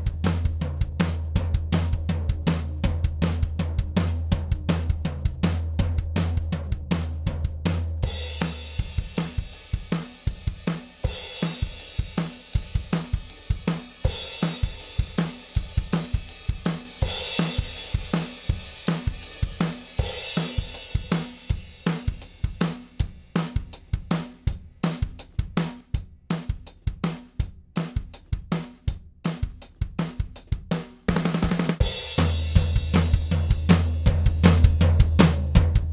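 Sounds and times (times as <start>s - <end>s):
drum kit playing steady beat: 0.0s - 35.9s.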